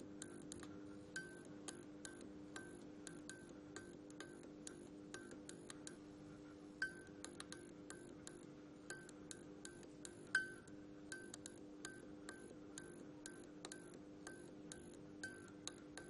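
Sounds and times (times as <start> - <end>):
fluorescent lamp humming: 0.0 - 16.0
sharp clicks and ticks: 0.2 - 6.0, 6.8 - 16.0.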